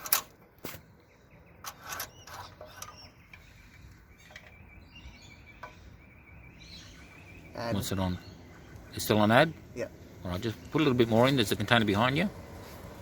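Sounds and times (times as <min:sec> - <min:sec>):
faint bird chirping: 0:00.7 - 0:13.0.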